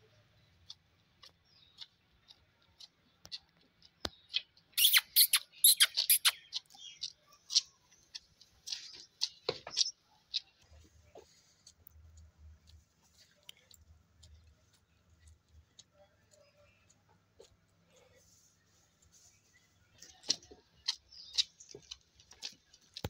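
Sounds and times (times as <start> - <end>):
calf sucking and smacking: 0.7 - 23.0.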